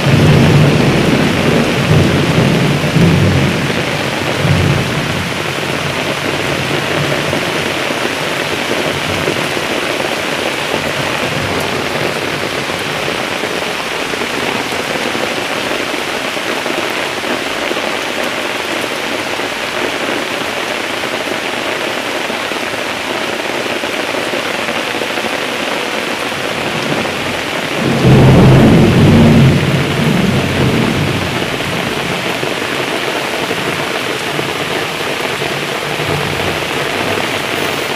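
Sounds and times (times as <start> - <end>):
thunderclap rumbling: 0.0 - 17.8, 24.0 - 37.9
steady rain falling: 0.0 - 37.9.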